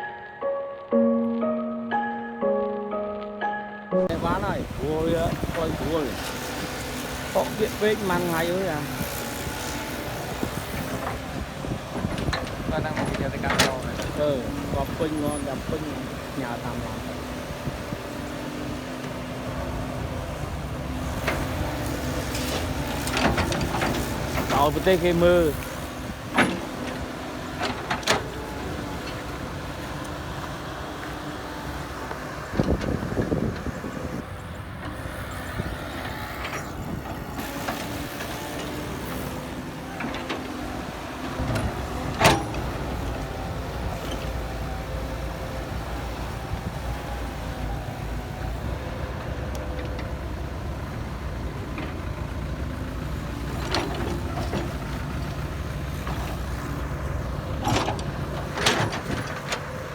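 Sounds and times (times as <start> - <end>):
heavy machinery rumbling: 4.0 - 59.9.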